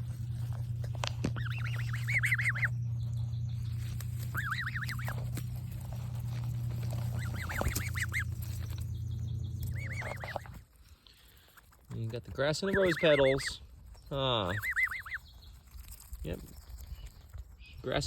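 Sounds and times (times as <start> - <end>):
young goose chirping: 0.0 - 11.7, 12.5 - 15.8.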